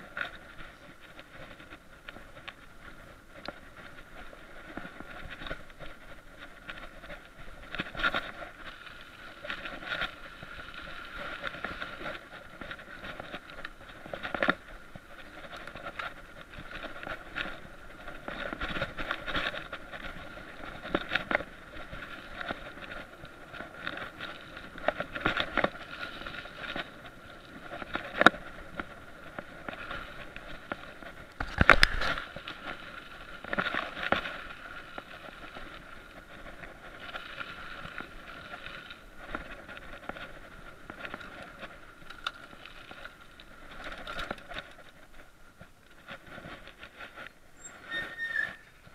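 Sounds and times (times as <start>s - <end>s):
bike rattling over bumps: 0.0s - 48.9s
bike tyre riding noise: 0.0s - 48.9s.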